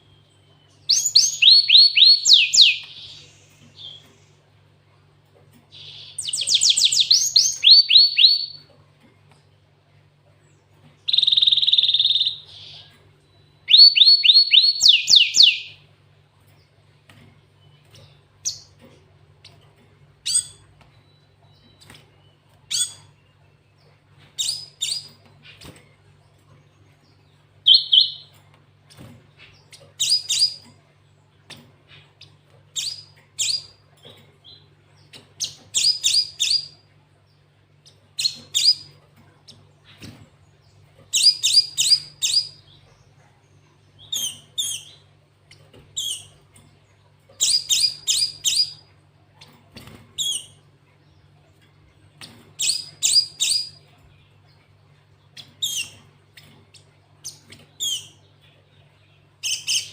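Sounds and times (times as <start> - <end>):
bird singing: 0.0 - 4.4, 5.7 - 8.8, 10.4 - 15.9, 17.6 - 59.9
faint low hum: 0.0 - 59.9.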